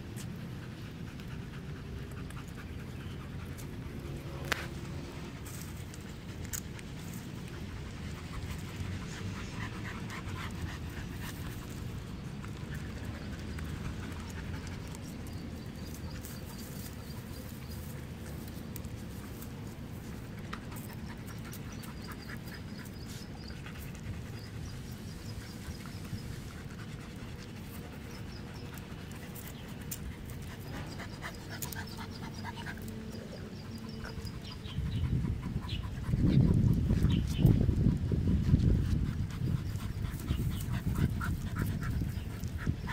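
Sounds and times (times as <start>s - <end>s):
dogs panting: 0.0s - 42.9s.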